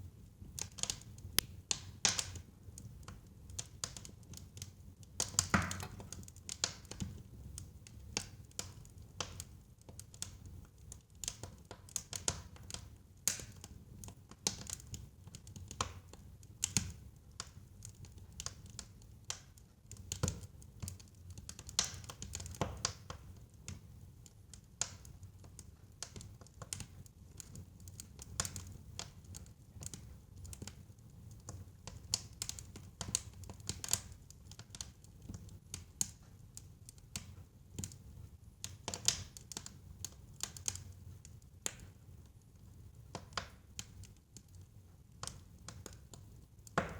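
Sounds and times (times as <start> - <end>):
wood fire crackling and popping: 0.1 - 46.9.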